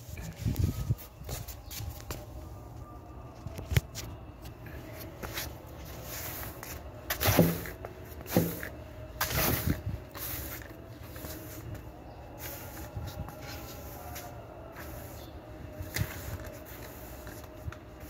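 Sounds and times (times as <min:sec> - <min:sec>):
broom sweeping tiled floor: 0:00.0 - 0:02.9, 0:03.6 - 0:18.0.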